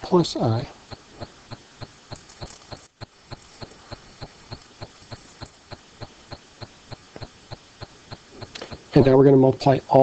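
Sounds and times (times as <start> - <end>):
faint background hiss: 0.0 - 10.0
regular ticking: 0.1 - 9.6.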